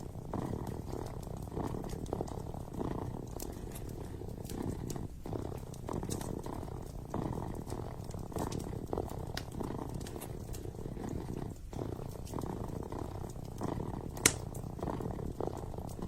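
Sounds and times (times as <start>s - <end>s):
kitten purring: 0.0s - 16.0s
wood fire crackling: 0.0s - 16.0s.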